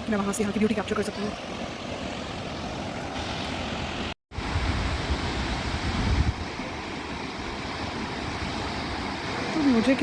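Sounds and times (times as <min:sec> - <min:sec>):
large waterfall rushing: 0:00.2 - 0:10.0
wind buffeting microphone: 0:00.7 - 0:10.0.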